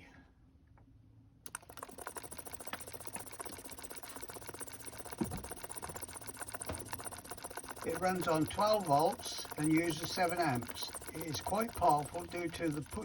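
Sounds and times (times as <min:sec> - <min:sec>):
solenoid engine rapid clicking: 0:01.4 - 0:13.0.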